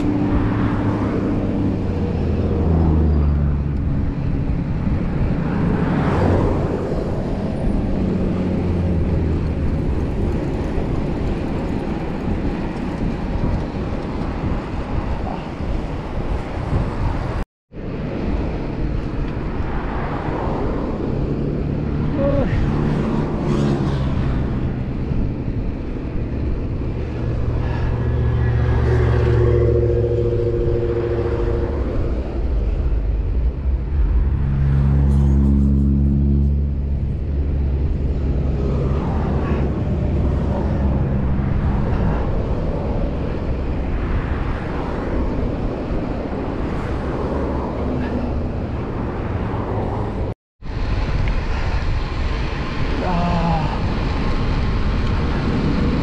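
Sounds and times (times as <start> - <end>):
vehicle engines and road noise: 0.0 - 56.0
wind buffeting microphone: 0.0 - 56.0.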